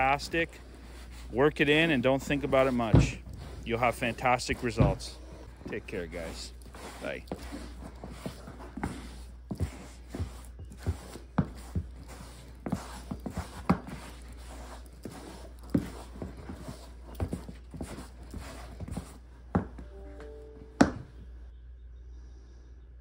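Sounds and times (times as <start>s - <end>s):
soft rubbing: 0.0s - 21.2s.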